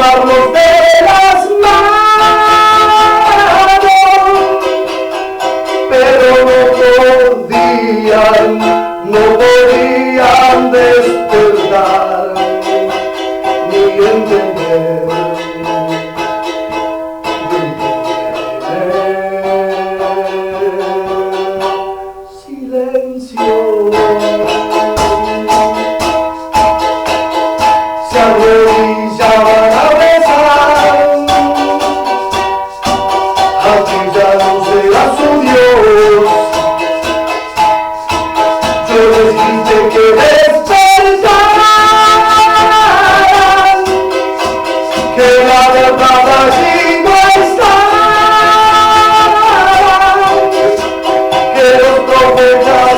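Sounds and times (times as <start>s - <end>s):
charango strummed: 0.0s - 52.9s
man singing: 0.0s - 52.9s.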